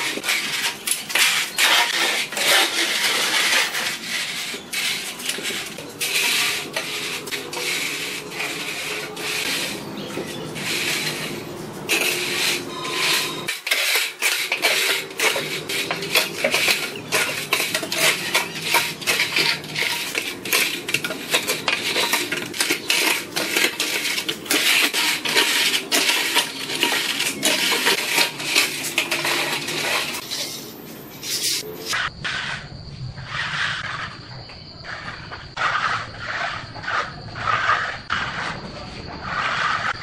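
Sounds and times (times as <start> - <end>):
screed bar scraping wet mortar: 0.0 - 32.6, 34.9 - 38.6, 39.2 - 40.0
trowel smoothing wet concrete: 0.0 - 32.6, 33.2 - 34.2, 34.9 - 40.0.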